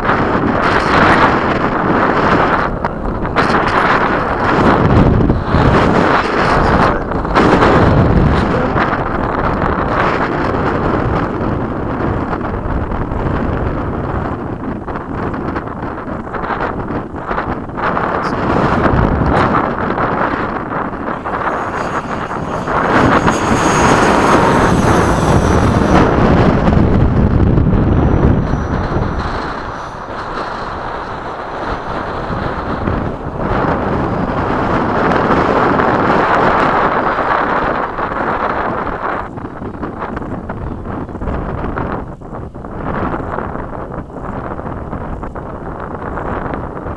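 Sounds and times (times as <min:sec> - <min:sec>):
model jet fan rushing: 0:00.0 - 0:45.9
wind noise on microphone: 0:00.0 - 0:46.9.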